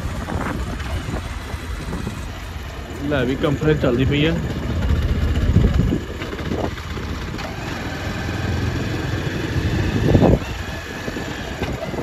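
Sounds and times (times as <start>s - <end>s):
road and wind noise: 0.0s - 12.0s
vehicle engine low rumble: 0.0s - 12.0s.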